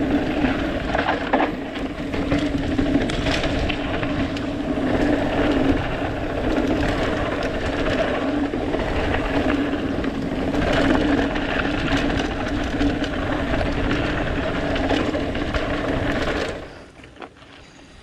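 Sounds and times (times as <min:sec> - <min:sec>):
mountain bike rattling on trail: 0:00.0 - 0:18.0.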